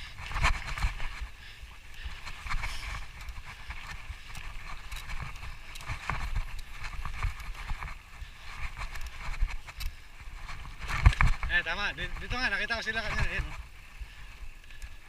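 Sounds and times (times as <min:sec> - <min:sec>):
footsteps through brush: 0:00.0 - 0:15.0
low wind rumble: 0:00.0 - 0:15.0.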